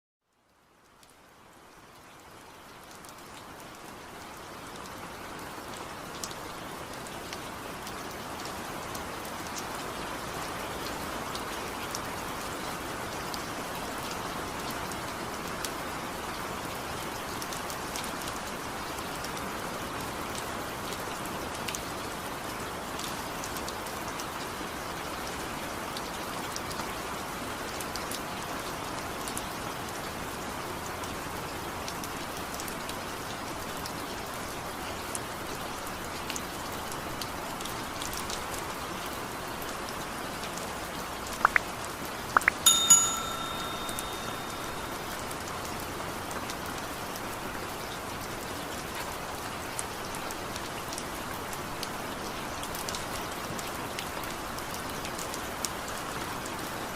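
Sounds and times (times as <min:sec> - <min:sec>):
steady rain falling: 0:00.2 - 0:56.9.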